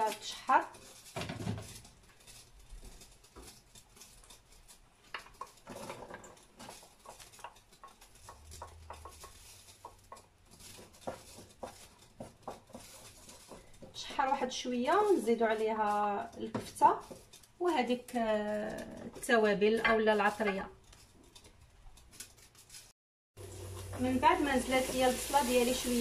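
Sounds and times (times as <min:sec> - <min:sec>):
wooden spoon stirring in pan: 0:00.0 - 0:26.0.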